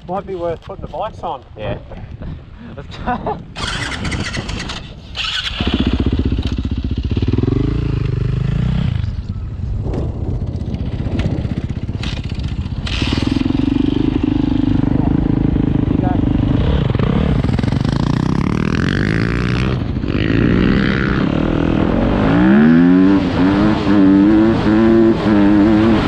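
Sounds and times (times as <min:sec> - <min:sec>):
dirt bike engine revving and idling: 0:03.6 - 0:26.0.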